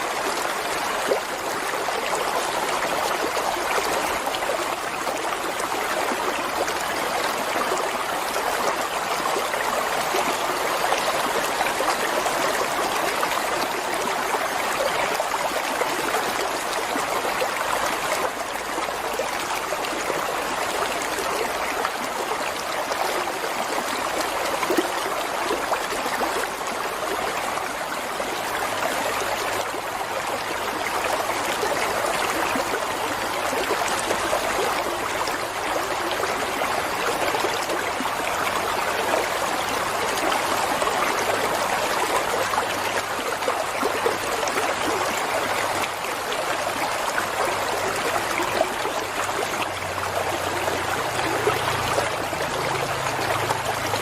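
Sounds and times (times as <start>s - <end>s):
water flowing and trickling: 0.0s - 54.0s.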